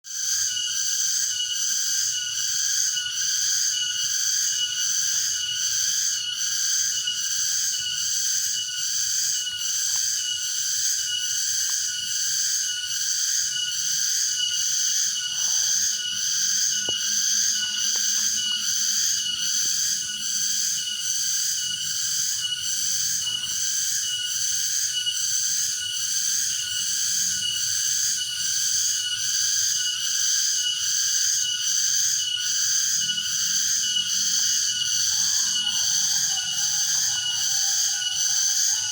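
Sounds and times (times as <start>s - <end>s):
cicadas singing: 0.1s - 38.9s.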